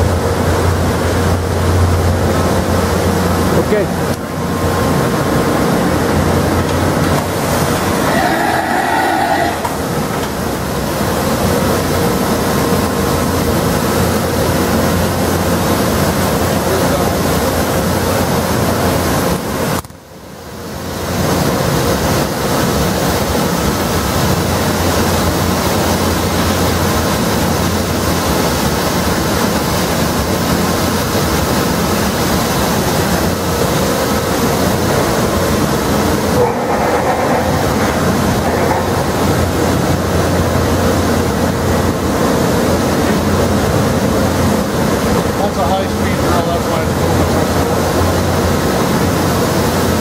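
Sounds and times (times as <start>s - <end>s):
machining center running: 0.0s - 50.0s.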